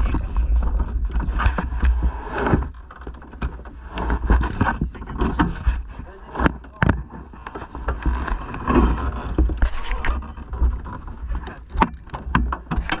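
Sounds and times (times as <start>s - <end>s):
cart knocks and rattles: 0.0s - 13.0s
wheels rumbling on asphalt: 0.0s - 13.0s
wind rush on microphone: 0.0s - 13.0s.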